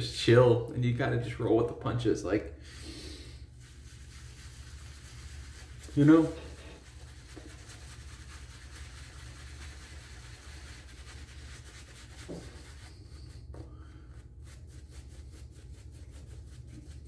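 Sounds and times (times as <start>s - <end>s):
shaving brush rubbing on face: 2.9s - 17.0s.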